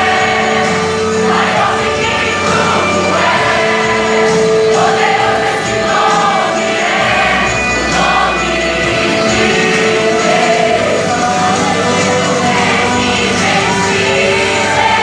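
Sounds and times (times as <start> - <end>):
group singing worship music: 0.0 - 15.0
instrumental accompaniment: 0.0 - 15.0.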